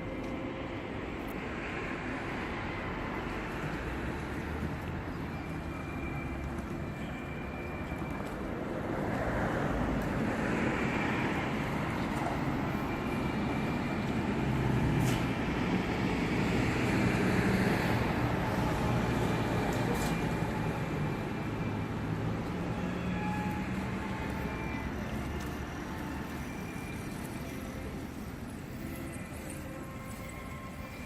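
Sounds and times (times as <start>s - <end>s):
passing road traffic: 0.0s - 31.0s.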